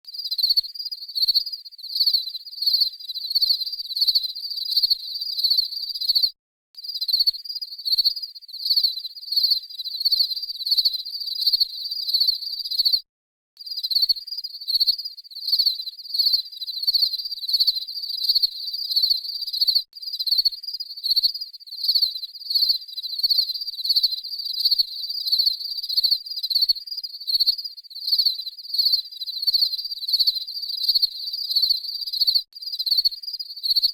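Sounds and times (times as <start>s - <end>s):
crickets chirping: 0.2s - 13.0s, 13.7s - 33.9s.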